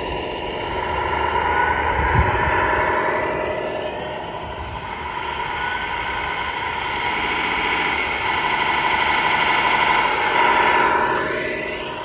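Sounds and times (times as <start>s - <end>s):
simulated truck engine sound: 0.0s - 12.0s
toy truck drivetrain: 0.0s - 12.0s.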